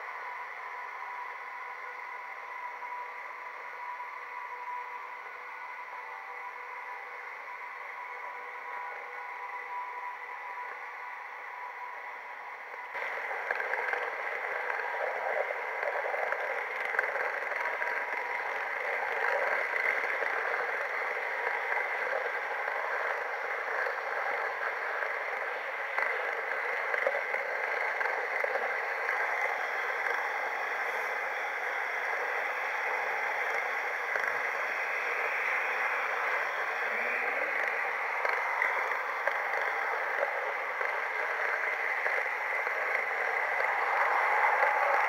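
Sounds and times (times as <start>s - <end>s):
model train wheels on rails: 0.0s - 45.0s.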